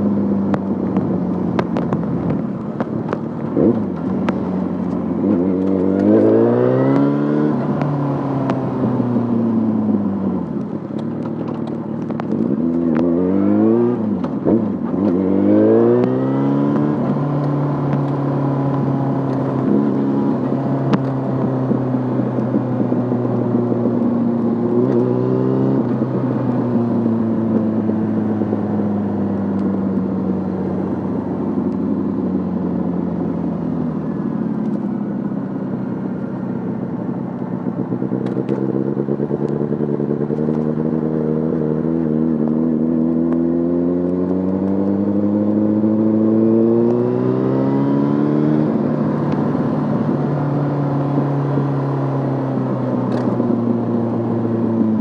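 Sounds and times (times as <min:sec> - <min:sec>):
motorcycle engine while riding: 0:00.0 - 0:55.0.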